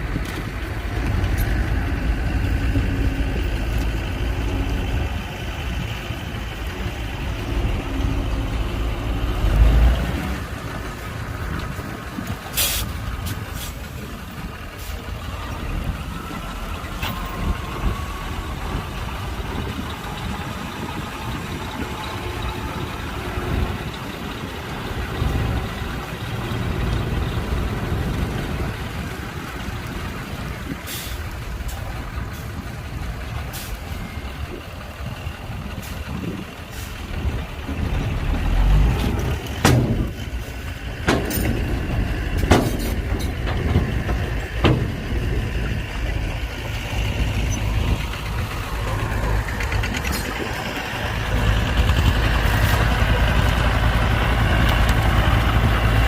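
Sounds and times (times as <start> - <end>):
diesel machinery rumbling: 0.0 - 56.0.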